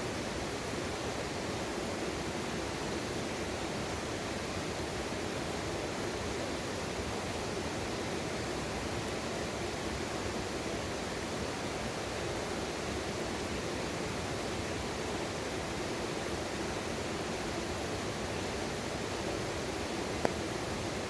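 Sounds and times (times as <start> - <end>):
water rushing in a stream: 0.0 - 21.0.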